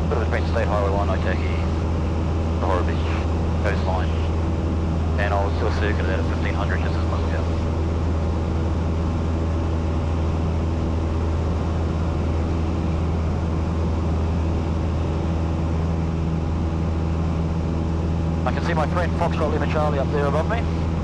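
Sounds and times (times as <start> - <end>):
light aircraft engine droning: 0.0 - 21.0.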